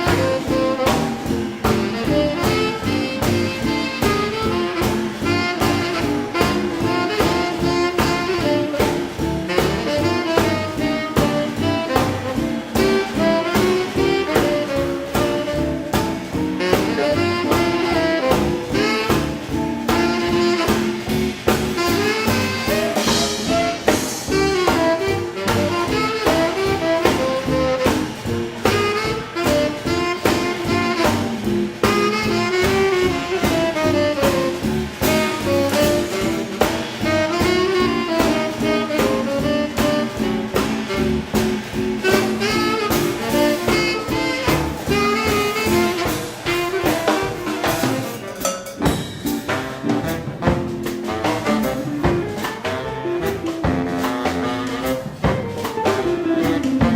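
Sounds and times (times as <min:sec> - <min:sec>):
saxophone melody: 0:00.0 - 0:56.9
swing band playing: 0:00.0 - 0:56.9.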